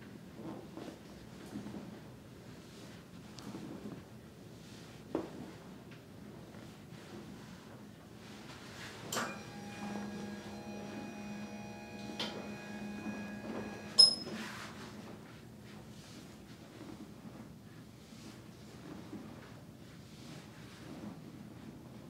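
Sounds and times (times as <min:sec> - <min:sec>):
steady mechanical hum: 0:00.4 - 0:22.0.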